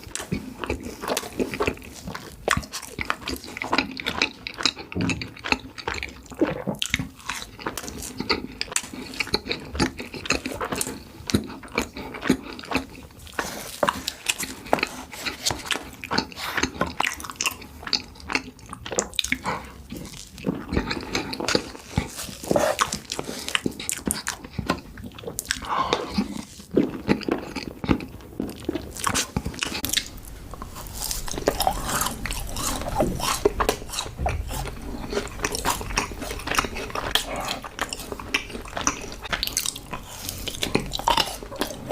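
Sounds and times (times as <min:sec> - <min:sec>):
biting and chewing cookies: 0:00.0 - 0:41.9.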